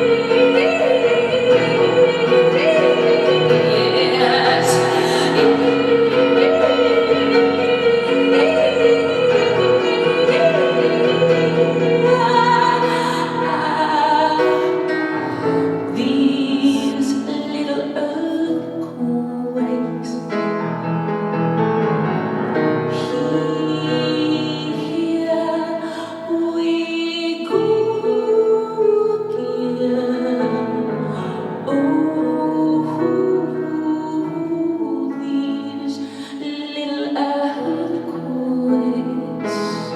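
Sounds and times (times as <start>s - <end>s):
woman singing wordless vocals: 0.0s - 20.4s, 22.8s - 39.9s.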